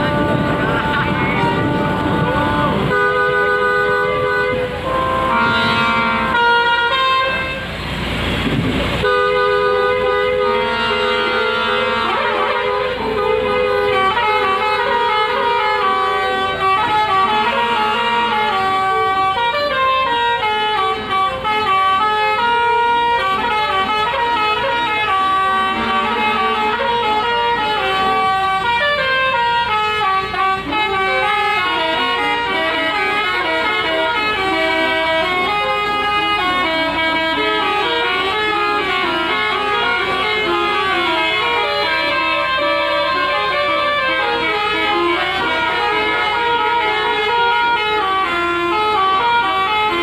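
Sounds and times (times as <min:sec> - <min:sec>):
bus musical horns jingling: 0:00.0 - 0:50.0.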